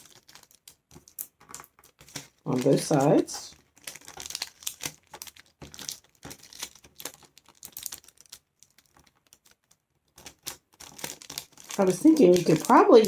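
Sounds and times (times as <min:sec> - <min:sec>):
paper crinkling: 0:00.0 - 0:13.0.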